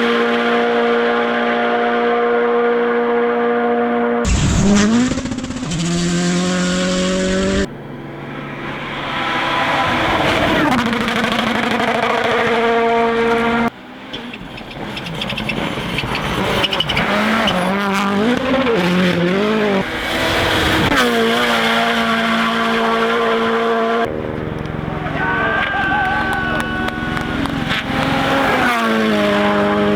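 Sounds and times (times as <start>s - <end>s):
rally car engines revving: 0.0s - 29.9s.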